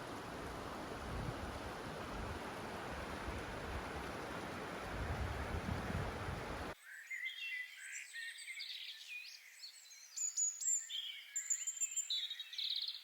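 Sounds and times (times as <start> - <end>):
songbirds singing: 2.5 - 13.0.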